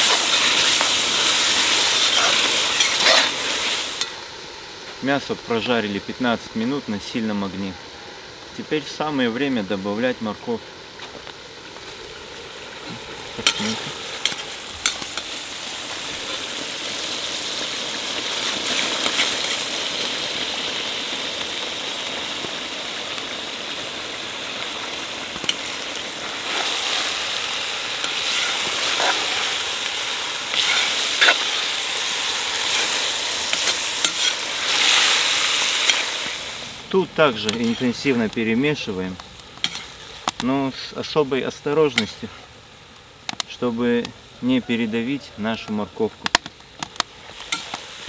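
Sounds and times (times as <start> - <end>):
meat sizzling in fat: 0.0 - 48.0.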